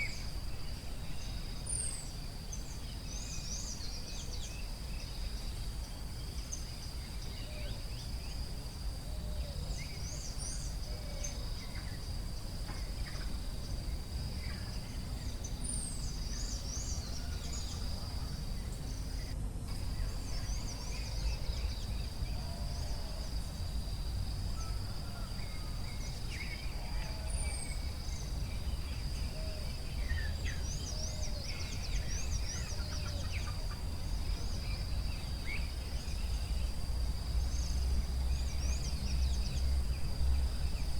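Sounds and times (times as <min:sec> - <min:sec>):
lower bird calls: 0:00.0 - 0:40.8
high insect drone: 0:00.0 - 0:40.9.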